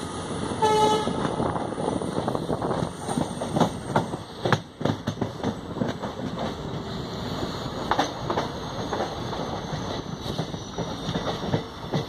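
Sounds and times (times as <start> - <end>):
train rumbling: 0.0 - 12.0
wheels clacking over rail joints: 1.0 - 6.9, 7.7 - 12.0.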